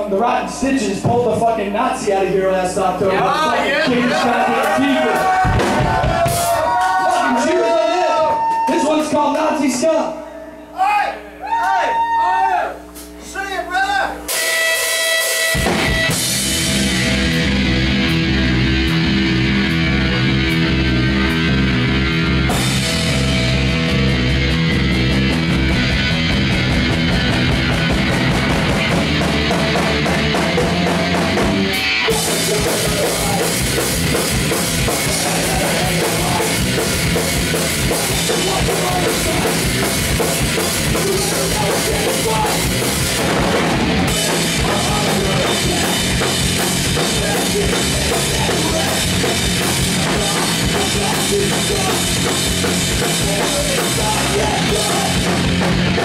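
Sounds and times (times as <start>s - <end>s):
punk band playing live: 0.0s - 10.7s, 14.1s - 56.0s.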